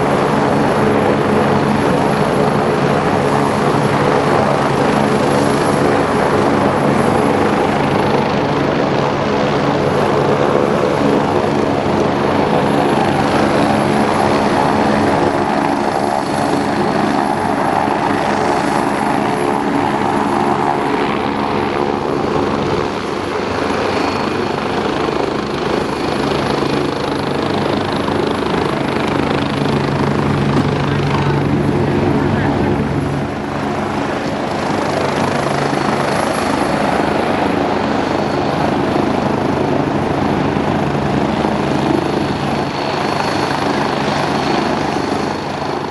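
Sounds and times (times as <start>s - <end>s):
helicopter rotor and engine drone: 0.0s - 45.9s.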